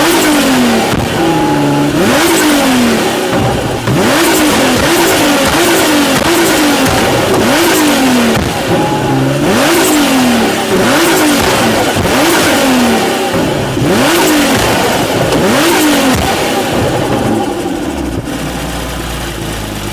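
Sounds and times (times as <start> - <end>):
car engine revving: 0.0 - 19.9
exhaust pops: 0.0 - 19.9.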